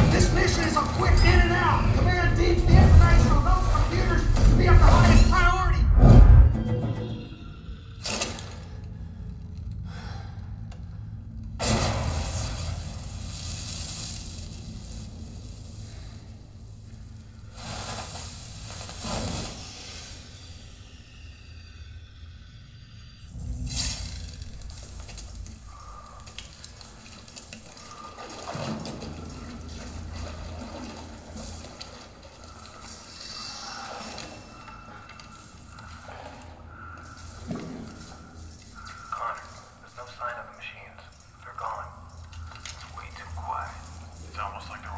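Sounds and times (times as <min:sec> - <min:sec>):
low rumble: 0:00.0 - 0:40.2.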